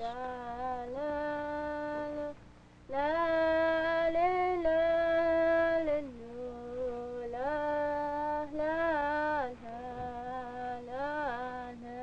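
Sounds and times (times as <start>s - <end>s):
woman singing a lullaby: 0.0s - 12.0s.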